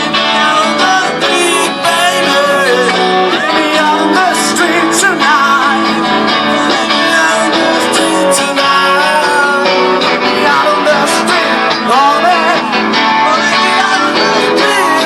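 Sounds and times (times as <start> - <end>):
guitars strumming: 0.0 - 15.0
person singing: 0.0 - 15.0.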